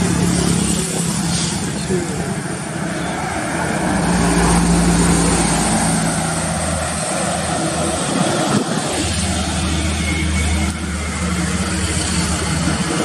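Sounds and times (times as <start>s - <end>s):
coach diesel engine passing: 0.0s - 13.0s
tyre and road noise: 0.0s - 13.0s.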